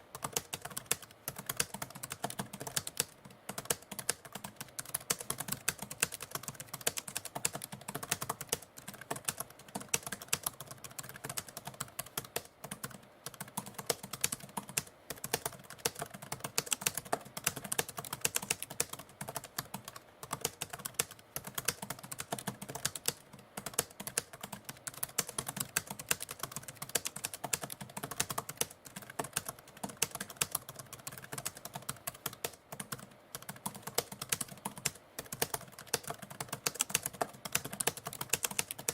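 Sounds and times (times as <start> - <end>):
typewriter keys clicking: 0.2 - 38.9.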